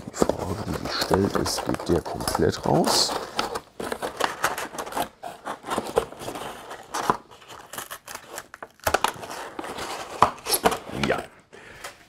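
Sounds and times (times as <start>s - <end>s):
cardboard scraping and rustling: 0.0s - 11.2s.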